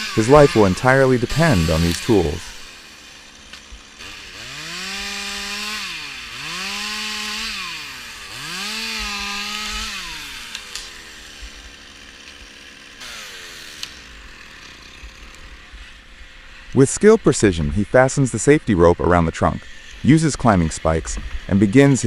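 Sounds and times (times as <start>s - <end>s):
chainsaw engine revving: 0.0s - 22.0s.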